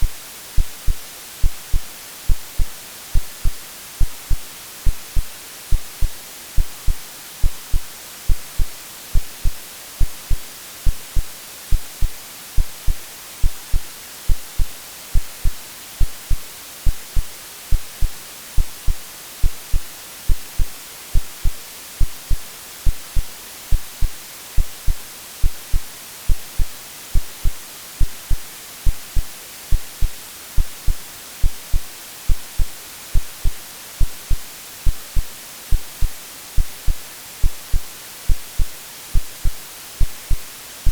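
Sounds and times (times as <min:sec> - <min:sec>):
heartbeat thumps: 0:00.0 - 0:40.9
white noise hiss: 0:00.0 - 0:40.9.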